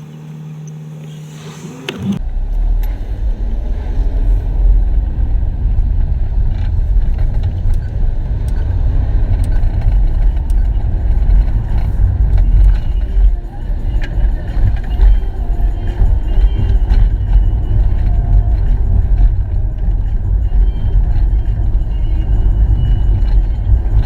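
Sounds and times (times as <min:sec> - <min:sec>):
wind buffeting microphone: 0:02.8 - 0:24.0.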